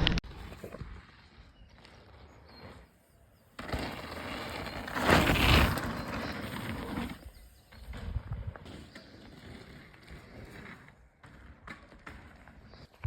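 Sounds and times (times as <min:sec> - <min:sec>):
mountain bike rattling on dirt trail: 0:00.0 - 0:13.0.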